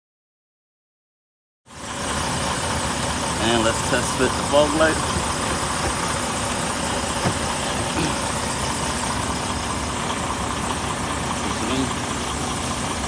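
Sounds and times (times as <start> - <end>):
diesel truck engine idling: 1.7 - 13.0.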